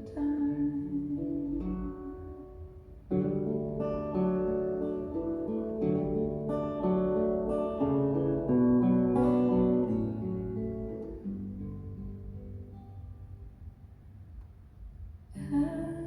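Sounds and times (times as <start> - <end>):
acoustic guitar picking: 0.0 - 14.2.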